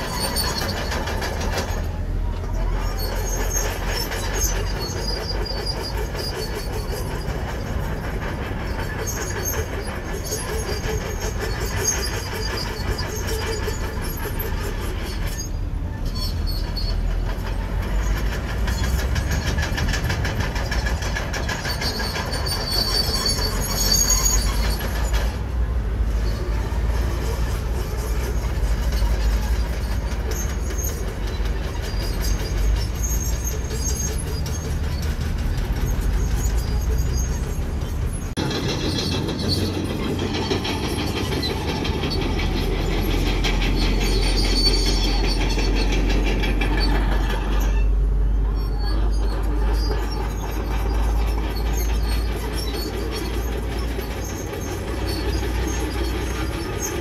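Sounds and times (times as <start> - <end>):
bulldozer engine under load: 0.0 - 57.0
steel tracks clanking: 0.0 - 57.0
track squeals: 0.0 - 57.0.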